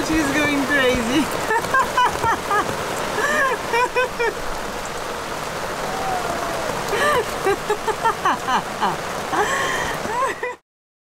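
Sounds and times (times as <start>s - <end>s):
heavy rain on boat deck: 0.0s - 10.6s.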